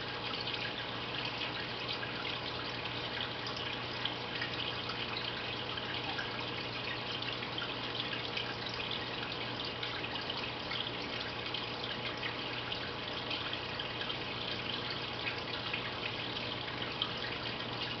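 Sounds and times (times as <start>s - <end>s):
aquarium water trickling: 0.0s - 18.0s
low steady hum: 0.0s - 18.0s.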